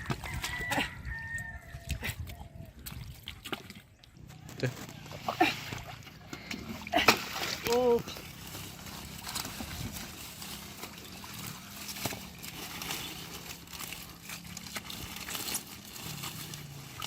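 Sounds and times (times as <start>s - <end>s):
small splashes and clicks: 0.0s - 17.0s
hands sloshing in water: 1.6s - 17.0s.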